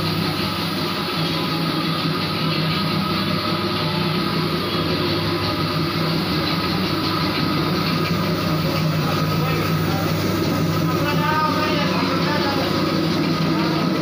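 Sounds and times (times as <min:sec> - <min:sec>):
machine motor humming: 0:00.0 - 0:14.0.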